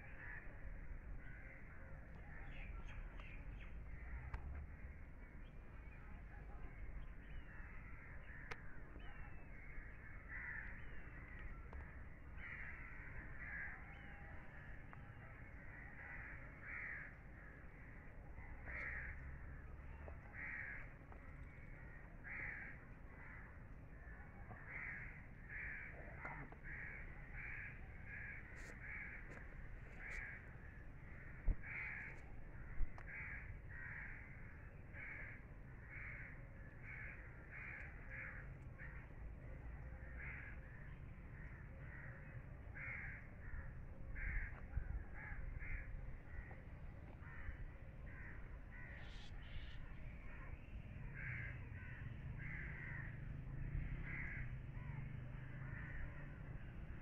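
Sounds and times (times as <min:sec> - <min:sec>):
birds calling: 0:00.0 - 0:57.0.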